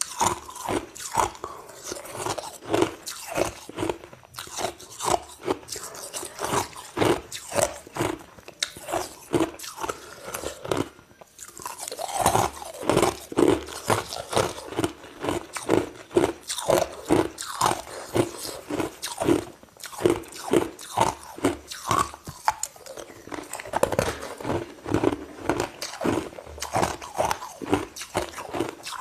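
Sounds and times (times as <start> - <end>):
ice crunching between teeth: 0.0 - 29.0.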